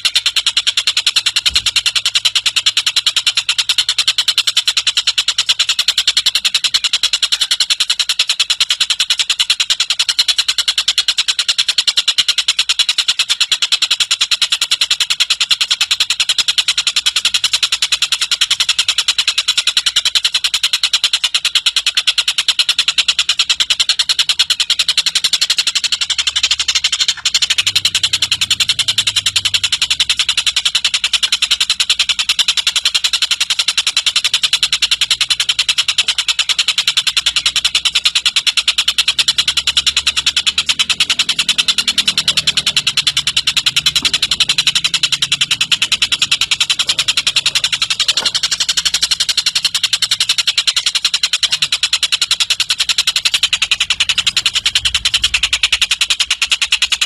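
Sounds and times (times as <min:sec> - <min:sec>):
bird chattering harshly: 0:00.0 - 0:57.0.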